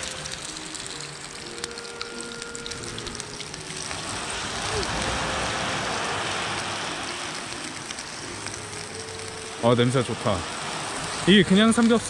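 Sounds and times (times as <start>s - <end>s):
pork sizzling in a frying pan: 0.0s - 12.0s.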